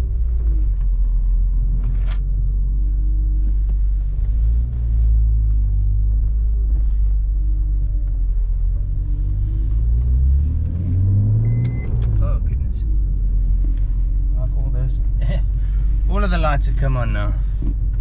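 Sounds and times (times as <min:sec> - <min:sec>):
car engine while driving: 0:00.0 - 0:18.0
road noise inside car: 0:00.0 - 0:18.0.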